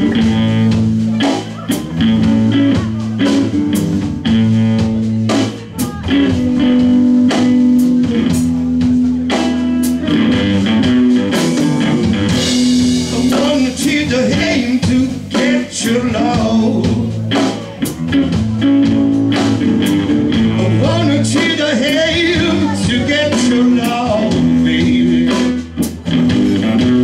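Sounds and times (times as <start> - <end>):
live blues band playing: 0.0 - 27.0.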